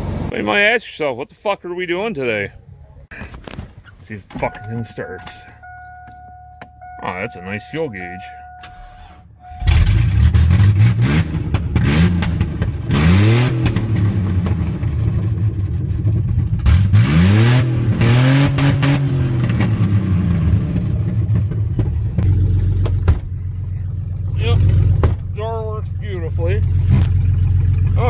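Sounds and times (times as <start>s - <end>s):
truck engine revving: 4.4s - 21.6s, 22.2s - 28.0s.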